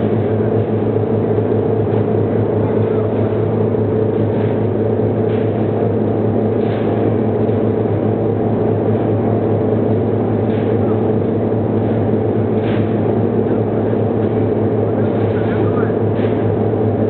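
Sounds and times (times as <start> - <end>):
wire drawing machine droning: 0.0 - 17.0.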